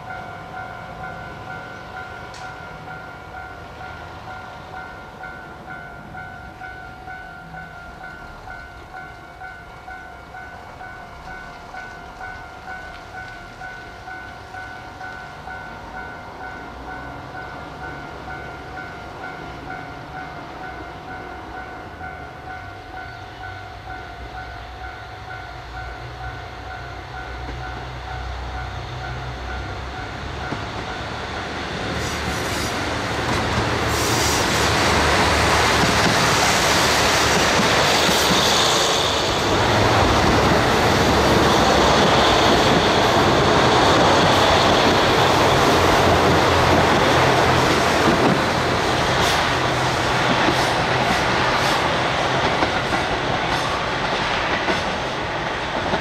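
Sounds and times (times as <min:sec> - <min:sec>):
diesel train: 0:00.0 - 0:56.0.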